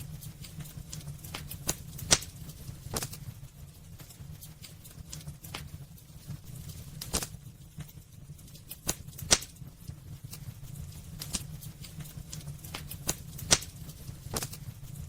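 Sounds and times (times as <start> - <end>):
firewood crackling and popping: 0.0 - 15.0
low steady fire rumble: 0.0 - 15.0.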